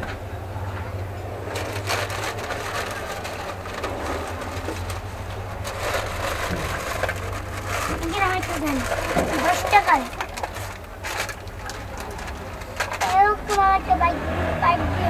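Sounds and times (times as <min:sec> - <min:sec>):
scattered clatter: 0:00.0 - 0:13.8
low engine hum: 0:00.0 - 0:15.0.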